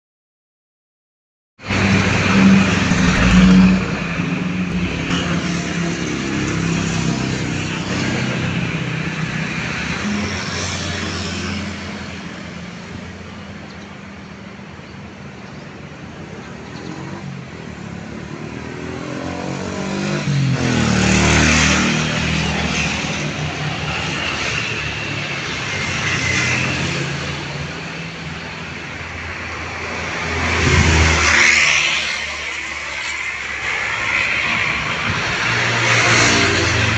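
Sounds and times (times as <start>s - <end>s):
road vehicles passing: 1.6s - 36.9s.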